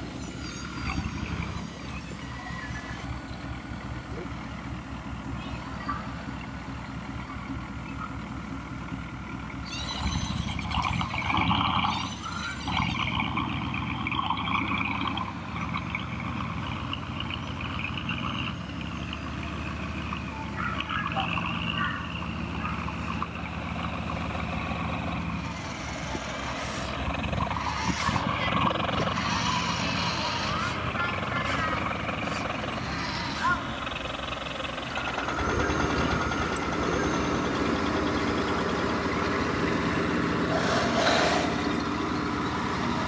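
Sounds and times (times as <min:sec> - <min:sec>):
model loader engine drone: 0:00.0 - 0:43.0.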